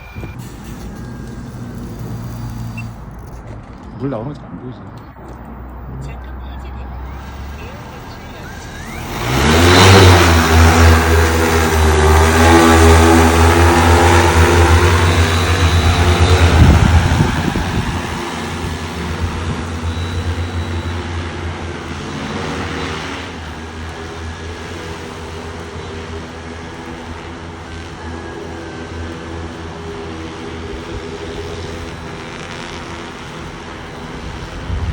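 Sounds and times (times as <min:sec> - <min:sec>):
drone rotors humming: 0:00.0 - 0:04.2, 0:04.9 - 0:34.9.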